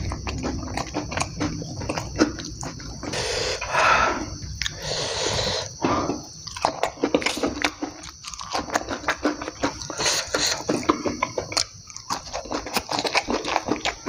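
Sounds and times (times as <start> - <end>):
wet chewing and lip smacking: 0.0 - 14.0.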